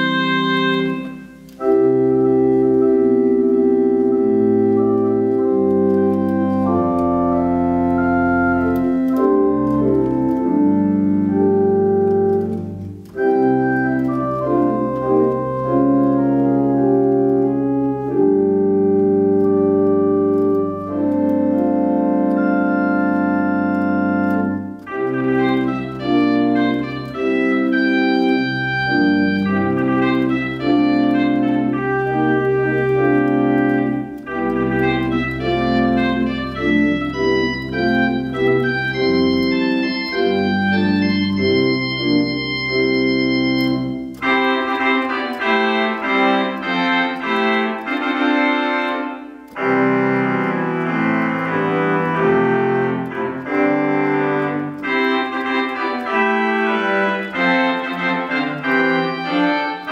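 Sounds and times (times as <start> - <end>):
organ playing slow chords: 0.0 - 59.9.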